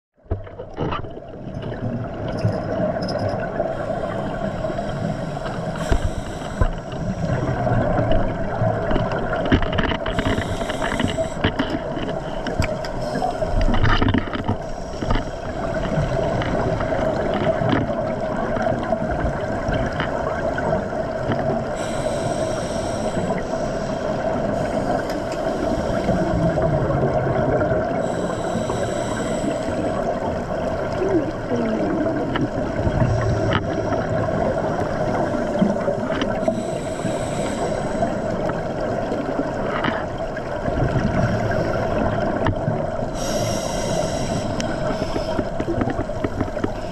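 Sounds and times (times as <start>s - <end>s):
steady underwater hum: 0.2s - 46.9s
exhaled bubbles hissing: 1.2s - 13.9s, 14.5s - 46.9s.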